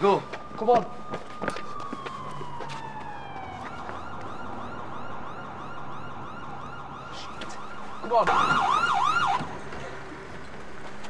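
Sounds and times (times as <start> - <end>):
police siren wailing and yelping: 0.0 - 9.6.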